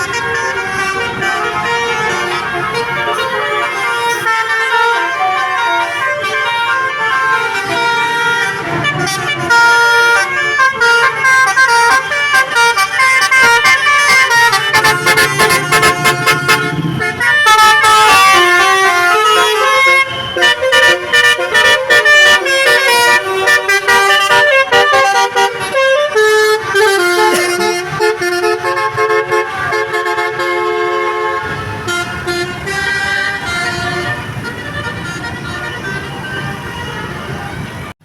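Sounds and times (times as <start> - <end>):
bus musical air horn melody: 0.0 - 38.0.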